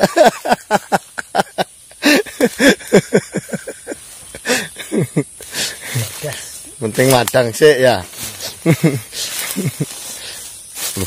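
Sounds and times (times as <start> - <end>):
forest insects droning: 0.0 - 11.0
men talking: 2.0 - 11.0.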